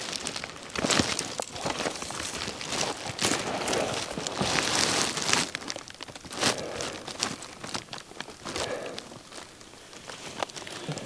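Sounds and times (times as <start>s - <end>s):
crackles and clicks: 0.0s - 11.0s
rustling and crinkling: 0.0s - 11.0s.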